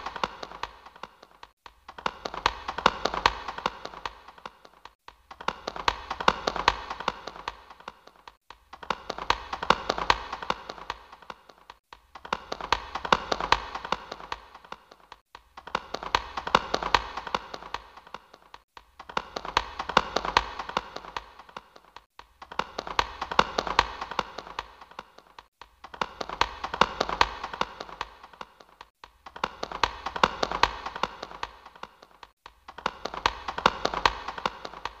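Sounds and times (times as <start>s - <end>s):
rapid irregular tapping: 0.0s - 35.0s.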